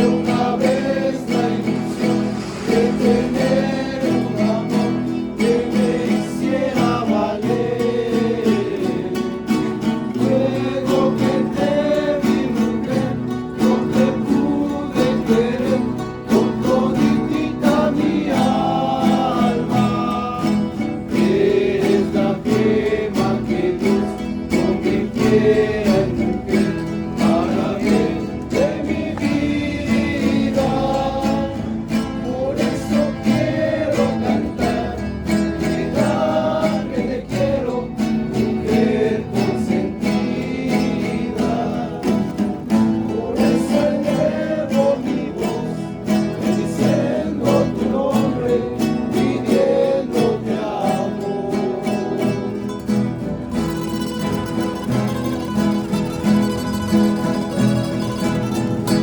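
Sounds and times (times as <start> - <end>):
acoustic guitars strummed: 0.0 - 59.0
group singing: 0.0 - 59.0.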